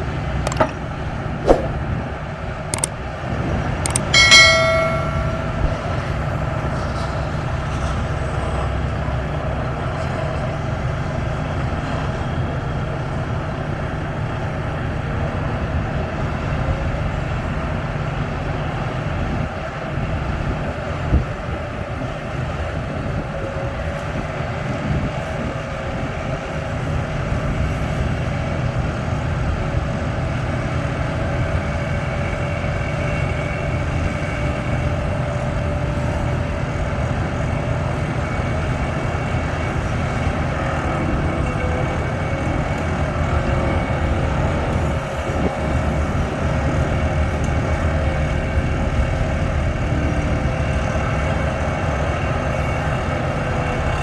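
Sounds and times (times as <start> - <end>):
deep engine rumble: 0.0 - 54.0
hydraulic whine: 0.0 - 54.0.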